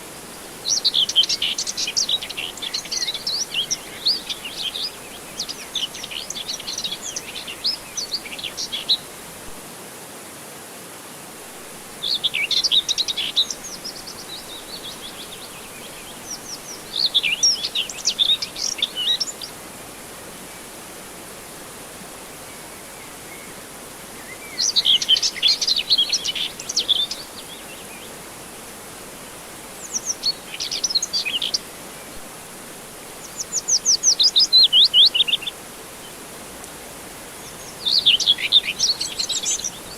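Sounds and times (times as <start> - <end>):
songbirds twittering: 0.0 - 9.2, 11.8 - 19.6, 22.3 - 32.3, 33.1 - 36.3, 37.0 - 39.9
soft background hiss: 0.0 - 39.9.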